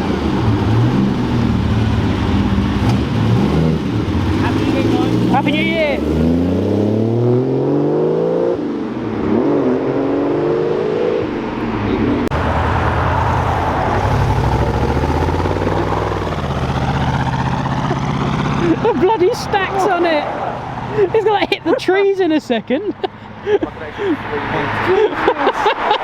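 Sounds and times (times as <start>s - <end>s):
engine running steadily: 0.0s - 7.0s, 11.6s - 25.7s
car engine revving: 0.0s - 26.0s.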